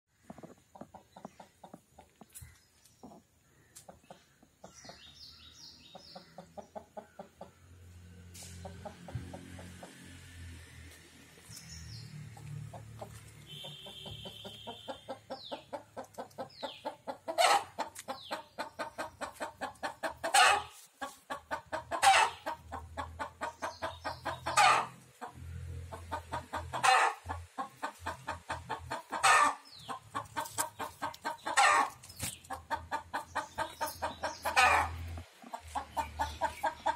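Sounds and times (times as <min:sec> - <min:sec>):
hen clucking: 0:00.2 - 0:07.8, 0:12.6 - 0:36.9.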